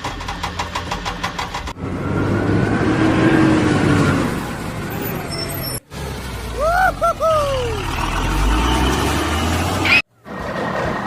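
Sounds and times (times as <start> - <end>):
vehicle engine rushing with whine: 1.8 - 11.0.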